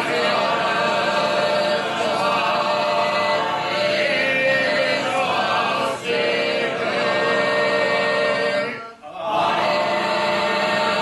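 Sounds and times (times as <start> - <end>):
group chanting in monotone: 0.0 - 11.0.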